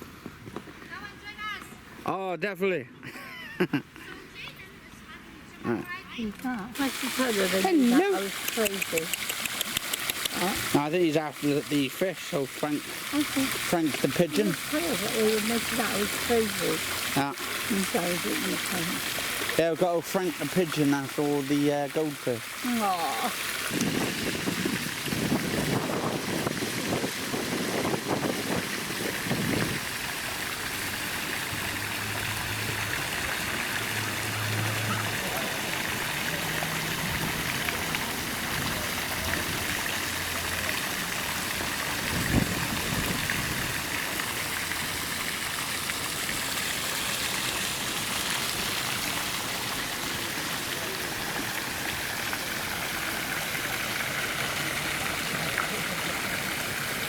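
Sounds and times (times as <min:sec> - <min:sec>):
water trickling into pond: 0:05.7 - 0:57.0.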